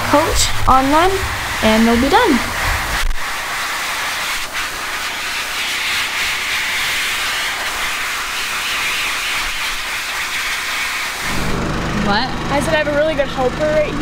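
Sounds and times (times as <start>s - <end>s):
livestock blower hissing: 0.0s - 12.6s.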